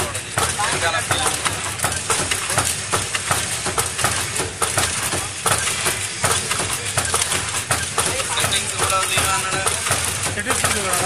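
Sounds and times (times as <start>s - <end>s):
packing machine clicking and clattering: 0.0s - 11.0s
steady machine noise: 0.0s - 11.0s.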